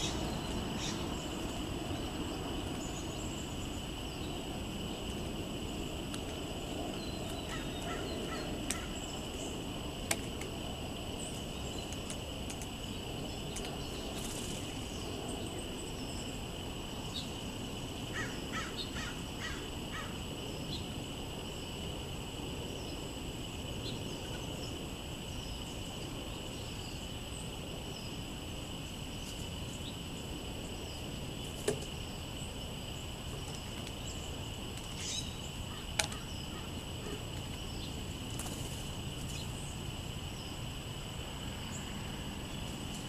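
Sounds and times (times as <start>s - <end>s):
high insect hum: 0.0s - 43.0s.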